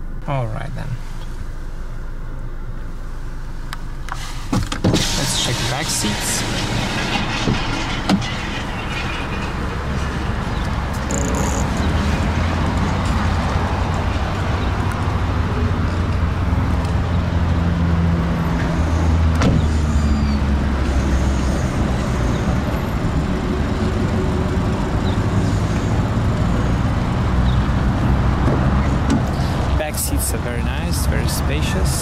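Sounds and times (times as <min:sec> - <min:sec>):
low motor vehicle rumble: 0:00.0 - 0:32.0.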